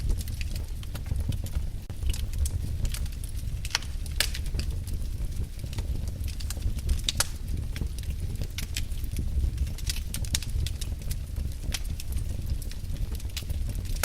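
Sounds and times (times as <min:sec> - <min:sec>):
steady low rumble: 0:00.0 - 0:14.0
wood fire crackling: 0:00.0 - 0:14.0.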